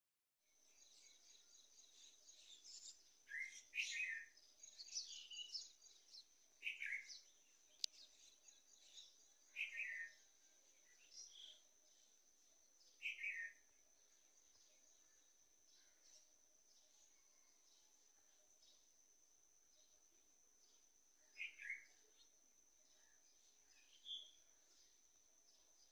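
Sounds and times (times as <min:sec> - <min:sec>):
steady high-pitched whine: 0:00.5 - 0:25.9
birds chirping: 0:00.6 - 0:17.7, 0:20.6 - 0:25.9.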